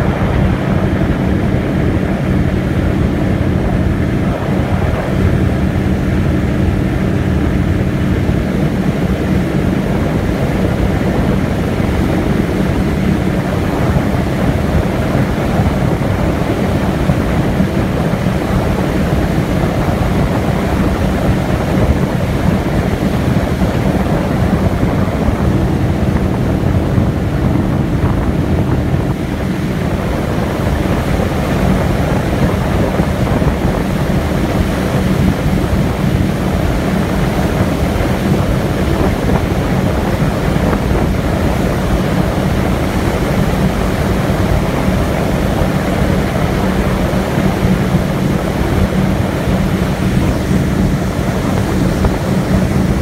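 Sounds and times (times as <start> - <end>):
boat engine droning: 0.0 - 53.0
water rushing past hull: 0.0 - 53.0
wind buffeting microphone: 0.0 - 53.0.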